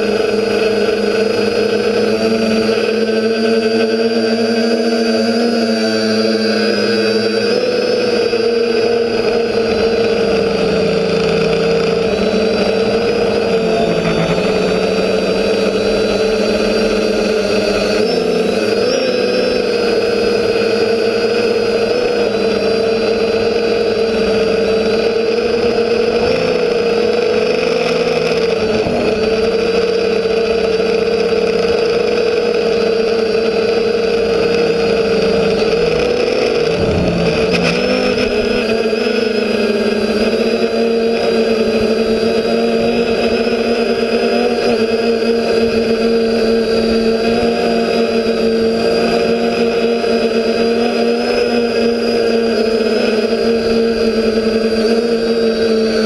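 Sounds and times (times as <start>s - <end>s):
quadcopter motors buzzing: 0.0s - 56.0s.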